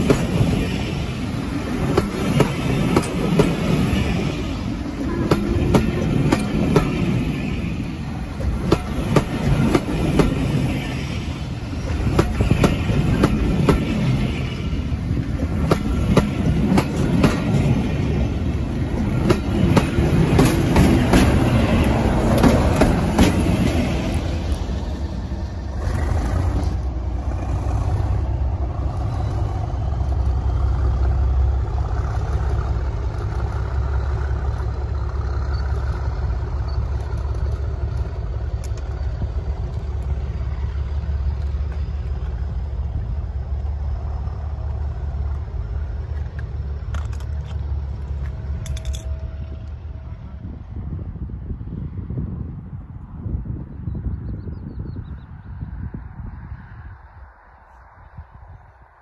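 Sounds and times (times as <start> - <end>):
train wheels clattering over rail joints: 0.0 - 24.8, 25.4 - 49.6.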